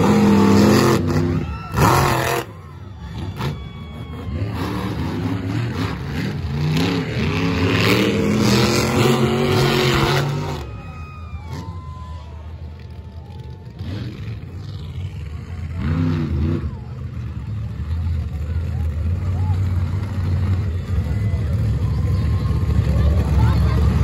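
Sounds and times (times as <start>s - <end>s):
truck engine revving hard: 0.0s - 12.0s, 13.4s - 24.0s.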